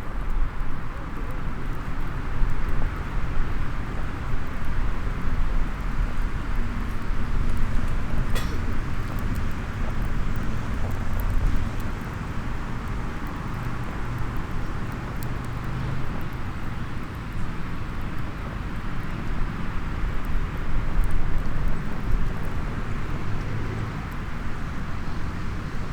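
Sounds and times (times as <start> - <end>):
small wood fire crackling: 0.0 - 25.9.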